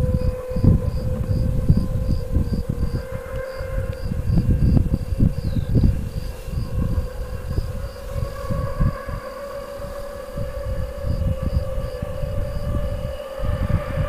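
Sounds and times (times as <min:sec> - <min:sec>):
crickets chirping: 0:00.0 - 0:14.0
steady low hum: 0:00.0 - 0:14.0
wind buffeting microphone: 0:00.0 - 0:14.0.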